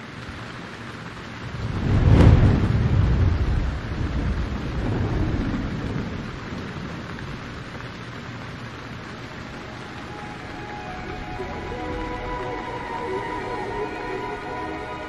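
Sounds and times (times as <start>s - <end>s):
rain hissing: 0.0s - 15.0s
thunder rumbling: 1.4s - 7.9s, 8.5s - 15.0s.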